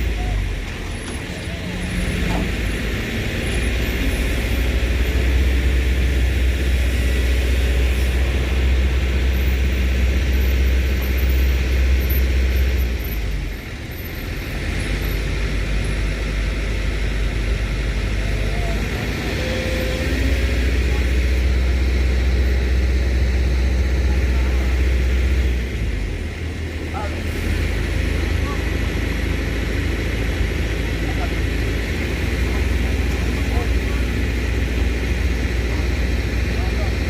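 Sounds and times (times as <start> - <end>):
heavy truck engine droning: 0.0 - 37.0.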